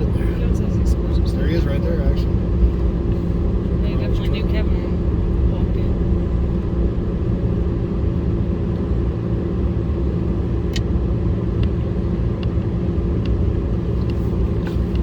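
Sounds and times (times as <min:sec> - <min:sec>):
car road rumble: 0:00.0 - 0:15.0
low engine hum: 0:00.0 - 0:15.0.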